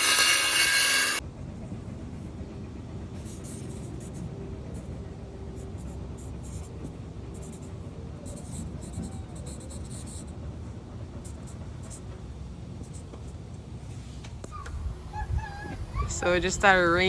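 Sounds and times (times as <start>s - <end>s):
steady low rumble: 1.2s - 17.0s.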